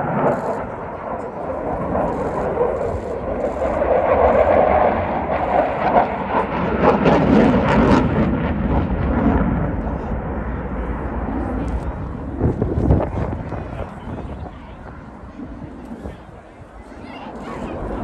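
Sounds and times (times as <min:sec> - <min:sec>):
jet engine roar with crackle: 0:00.0 - 0:18.0.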